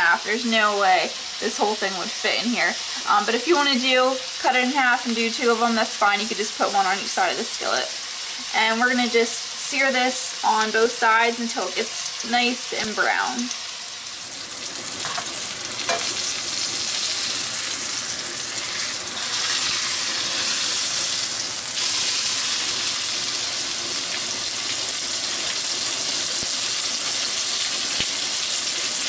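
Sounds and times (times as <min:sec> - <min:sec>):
meat sizzling in butter: 0:00.0 - 0:29.0.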